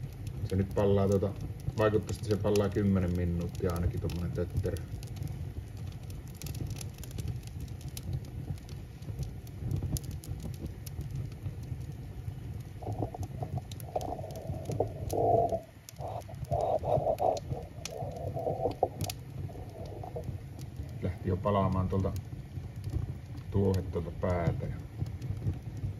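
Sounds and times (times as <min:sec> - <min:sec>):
low rumble of flame: 0:00.0 - 0:25.9
wood fire crackling: 0:00.0 - 0:25.9.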